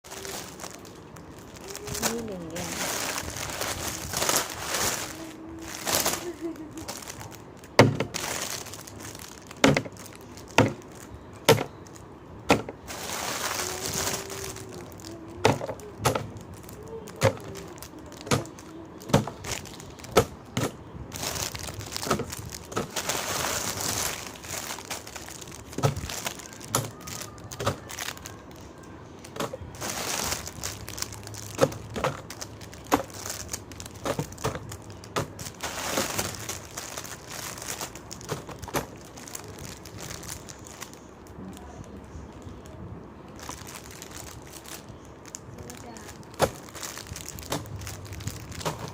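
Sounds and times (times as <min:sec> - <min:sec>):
plastic wrappers crinkling: 0:00.0 - 0:48.9.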